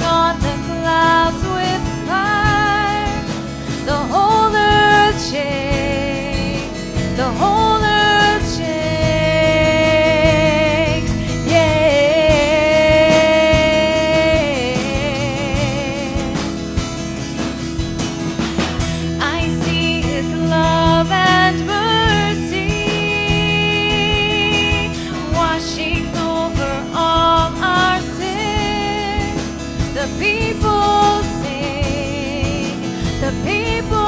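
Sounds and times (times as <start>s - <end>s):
person singing with vibrato: 0.0s - 16.7s, 18.9s - 34.0s
steady drum beat: 0.0s - 34.0s
worship band music: 0.0s - 34.0s.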